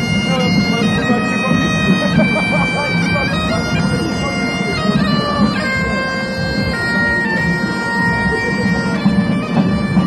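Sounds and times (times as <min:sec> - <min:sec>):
wind instruments playing a march: 0:00.0 - 0:10.0.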